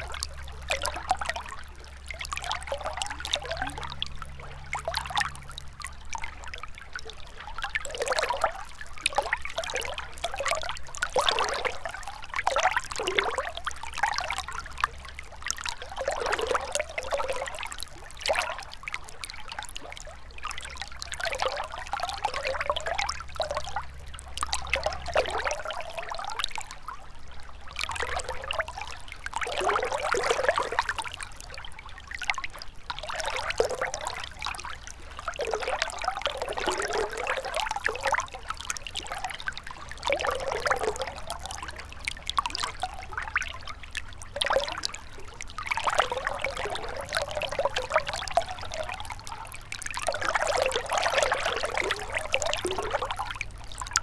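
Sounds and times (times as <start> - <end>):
river trickling over stones: 0.0 - 54.0.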